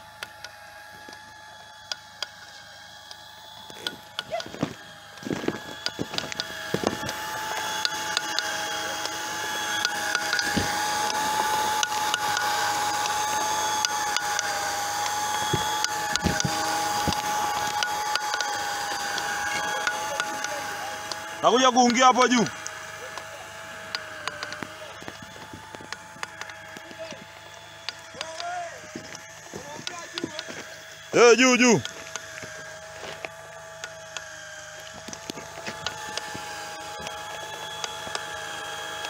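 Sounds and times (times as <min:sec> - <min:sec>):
welder motor whining: 0:00.0 - 0:39.0.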